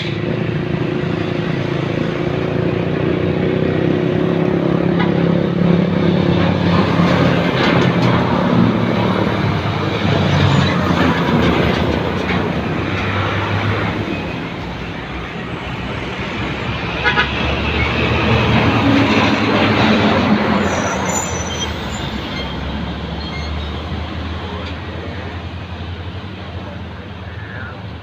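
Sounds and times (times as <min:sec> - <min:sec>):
diesel truck engine: 0:00.0 - 0:28.0.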